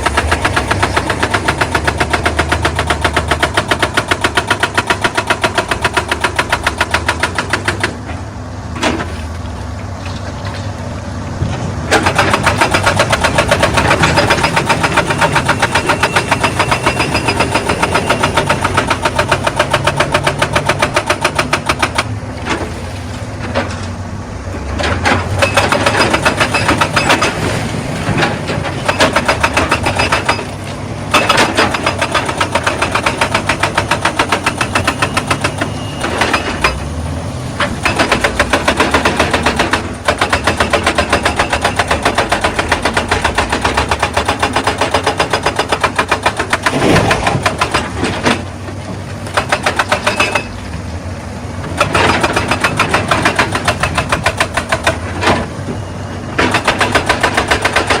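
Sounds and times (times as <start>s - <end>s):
hydraulic breaker hammering stone: 0.0s - 8.2s, 11.9s - 22.9s, 25.0s - 37.0s, 37.6s - 50.6s, 51.6s - 55.6s, 56.3s - 58.0s
diesel engine under load: 0.0s - 58.0s.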